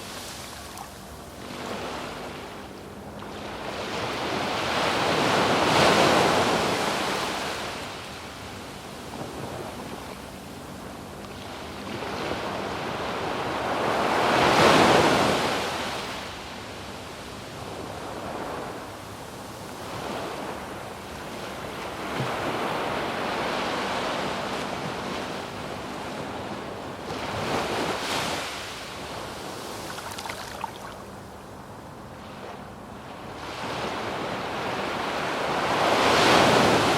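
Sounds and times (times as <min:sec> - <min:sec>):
waves breaking on a beach: 0:00.0 - 0:36.9.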